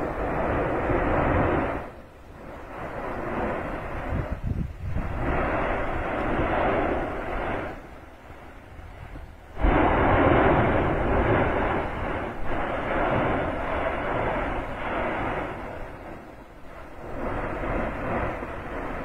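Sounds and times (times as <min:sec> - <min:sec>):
volcano roaring: 0:00.0 - 0:19.0.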